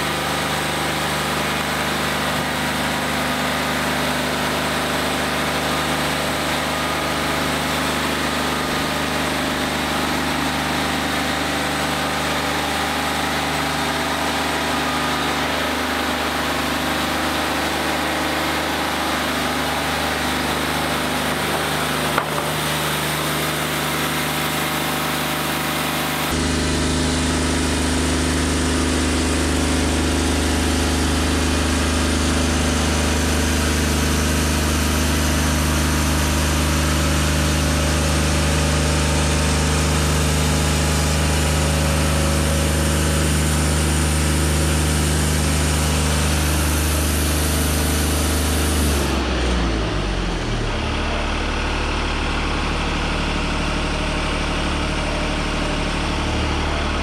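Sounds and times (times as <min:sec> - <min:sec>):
band sawmill cutting a log: 0:00.0 - 0:57.0.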